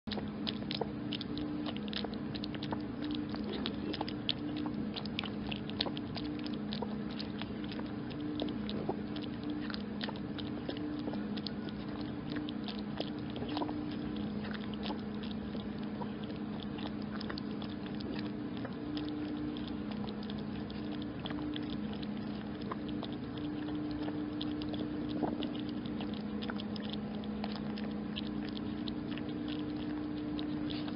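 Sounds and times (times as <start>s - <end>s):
kitten lapping milk: 0.0s - 30.9s.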